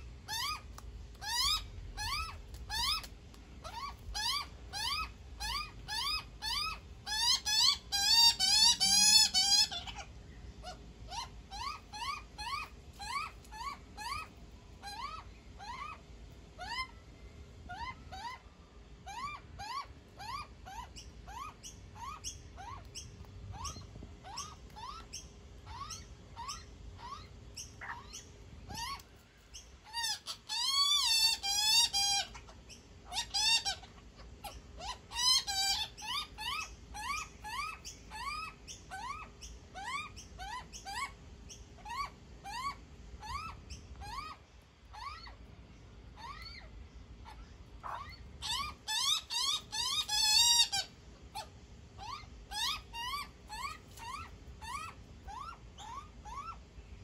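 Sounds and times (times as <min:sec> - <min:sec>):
young magpie squawking: 0:00.2 - 0:00.6, 0:01.2 - 0:16.0, 0:19.1 - 0:29.0, 0:29.8 - 0:41.2, 0:46.2 - 0:56.6.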